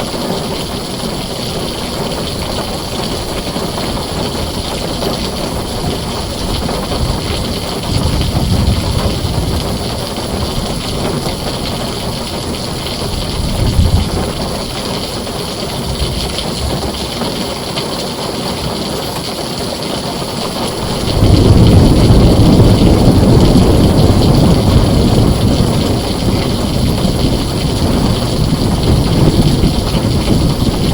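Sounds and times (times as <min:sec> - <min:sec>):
thunder rumbling: 0:00.0 - 0:17.8, 0:20.4 - 0:30.9
heavy rain on a tin roof: 0:00.0 - 0:30.9.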